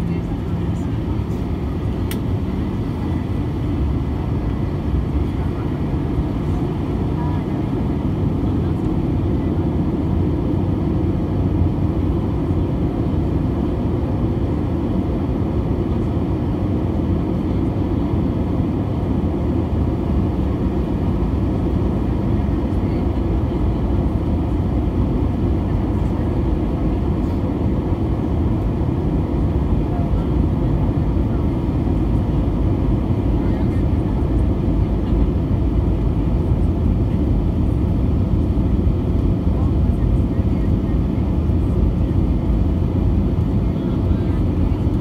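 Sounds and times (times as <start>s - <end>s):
airplane cabin engine rumble: 0.0s - 45.0s.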